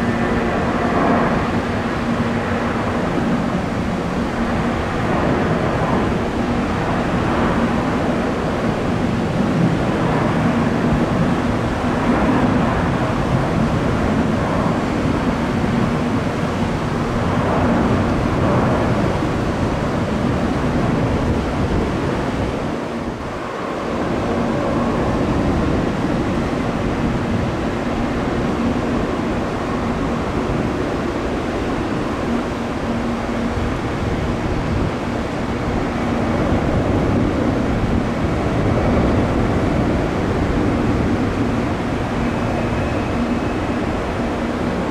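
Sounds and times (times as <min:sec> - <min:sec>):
jet engines rushing: 0:00.0 - 0:44.9.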